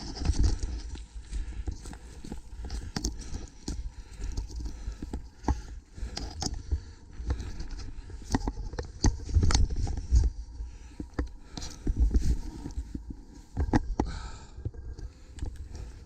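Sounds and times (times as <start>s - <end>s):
bike knocking and rattling: 0.0s - 14.4s.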